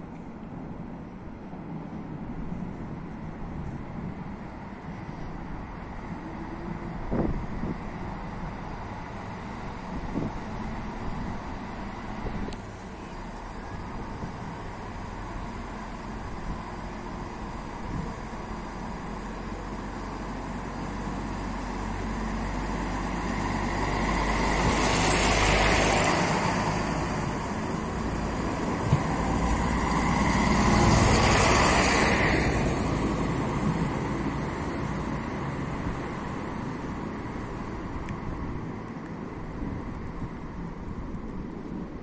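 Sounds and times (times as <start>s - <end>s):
diesel train passing: 0.0s - 42.0s.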